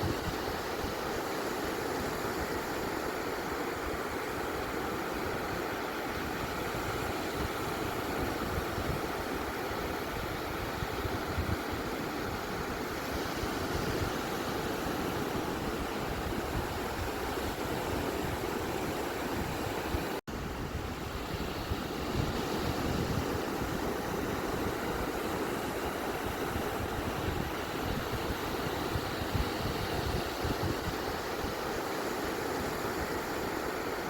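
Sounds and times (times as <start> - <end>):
ocean surf washing on beach: 0.0 - 34.0.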